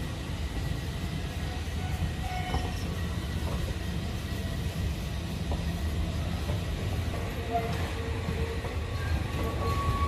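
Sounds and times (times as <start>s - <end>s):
train coaches rolling past: 0.0s - 10.0s.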